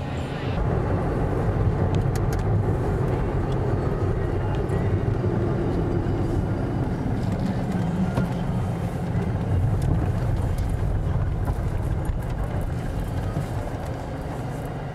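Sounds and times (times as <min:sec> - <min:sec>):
car engine and tyre rumble: 0:00.0 - 0:14.9.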